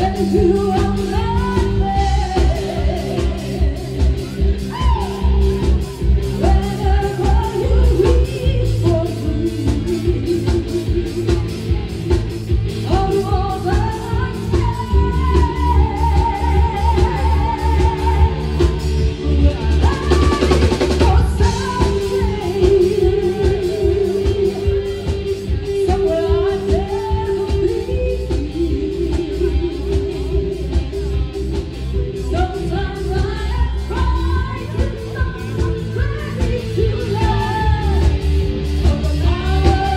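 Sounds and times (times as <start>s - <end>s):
drum kit beat: 0.0s - 39.9s
live band playing pop song: 0.0s - 39.9s
woman singing: 0.0s - 39.9s.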